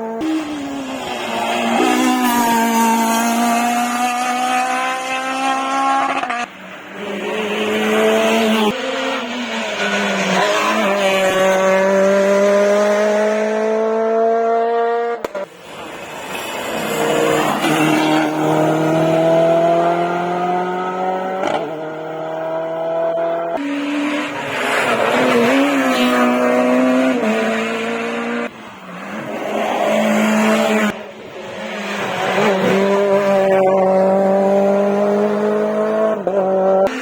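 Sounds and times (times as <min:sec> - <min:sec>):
rally cars accelerating hard: 0:00.0 - 0:37.0.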